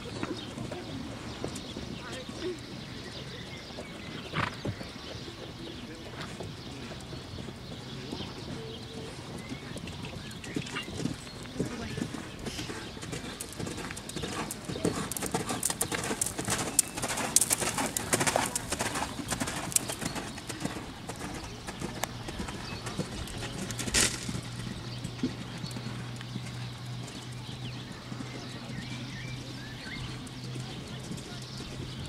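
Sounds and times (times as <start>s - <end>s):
horse hoofbeats on sand: 0.0s - 32.0s.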